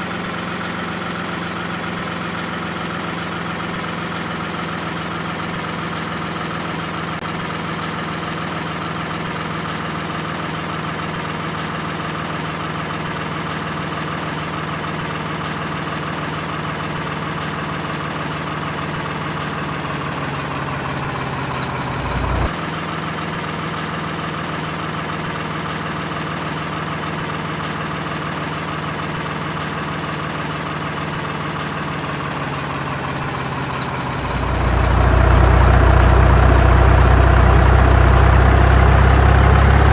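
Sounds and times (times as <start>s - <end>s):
excavator engine idling: 0.0s - 39.9s.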